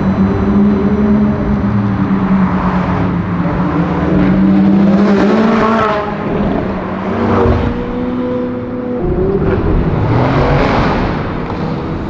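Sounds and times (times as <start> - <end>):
car engine revving: 0.0 - 12.0
cars driving past: 0.0 - 12.0.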